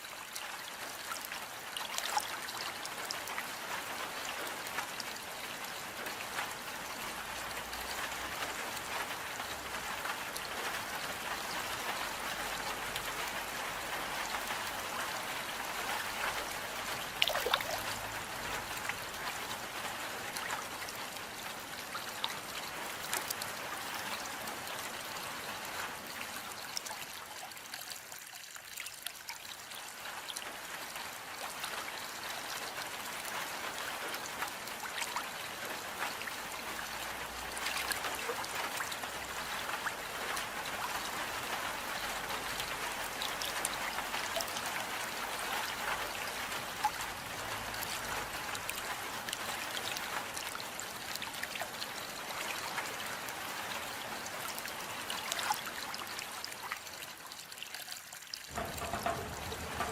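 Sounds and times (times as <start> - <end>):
steady rain hiss: 0.0 - 28.1, 29.6 - 57.2, 58.5 - 59.9
raindrop ticks: 2.0 - 27.1, 28.0 - 53.3, 58.5 - 59.9.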